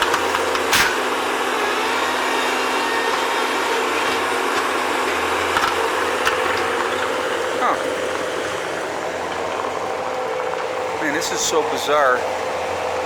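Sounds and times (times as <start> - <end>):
skid-steer loader running: 0.0 - 13.0.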